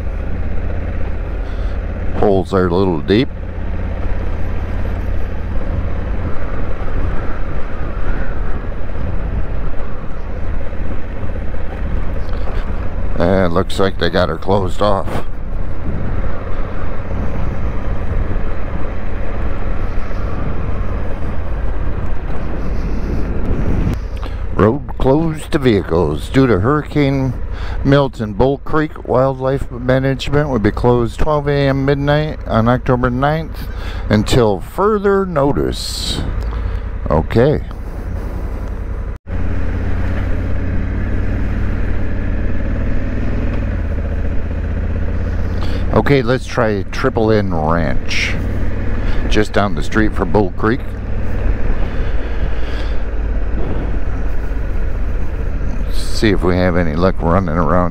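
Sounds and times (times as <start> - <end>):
motorcycle engine rumbling: 0.0 - 57.9
tyre noise on dirt road: 0.0 - 57.9.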